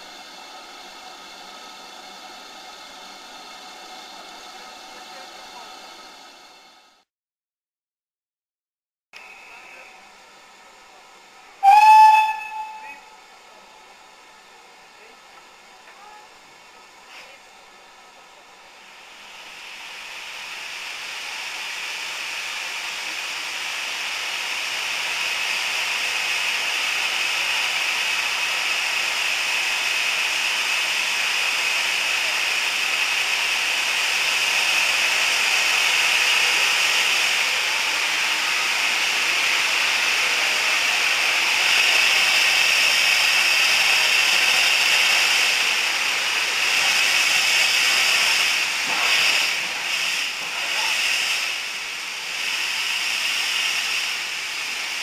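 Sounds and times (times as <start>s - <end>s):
steam locomotive hissing steam: 0.0s - 6.4s, 11.6s - 14.2s, 16.0s - 55.0s.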